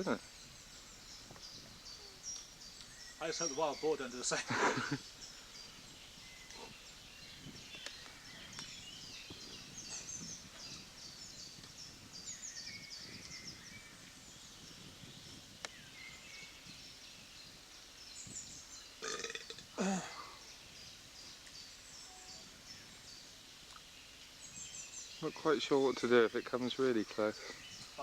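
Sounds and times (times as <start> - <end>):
small birds chirping and trilling: 0.0 - 28.0.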